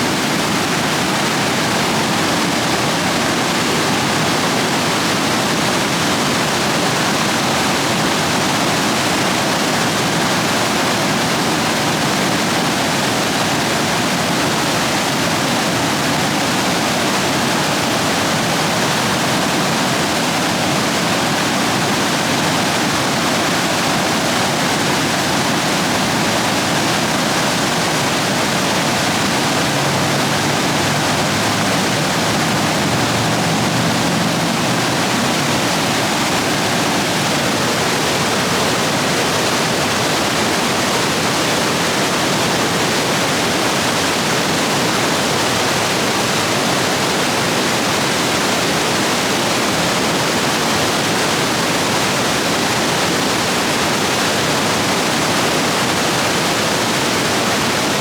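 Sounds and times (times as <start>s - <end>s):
water rushing over rapids: 0.0s - 58.0s.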